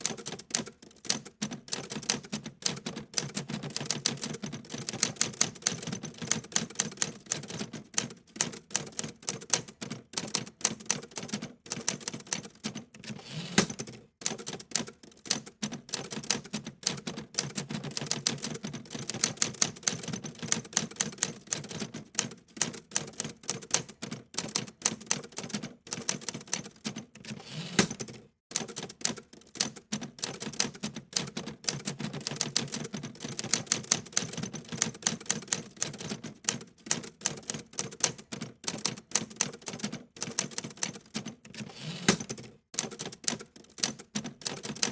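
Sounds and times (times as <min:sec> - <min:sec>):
rapid typing clicks: 0:00.0 - 0:44.9.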